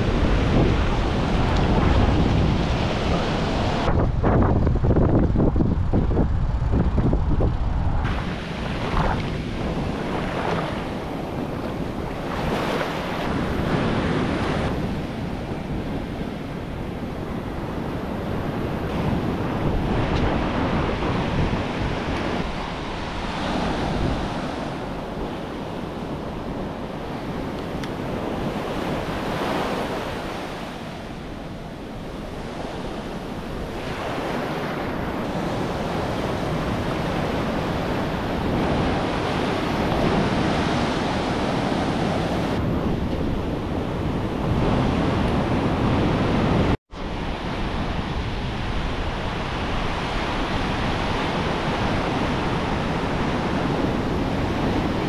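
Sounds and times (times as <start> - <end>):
ocean surf breaking: 0.0 - 55.0
wind on microphone: 0.0 - 55.0.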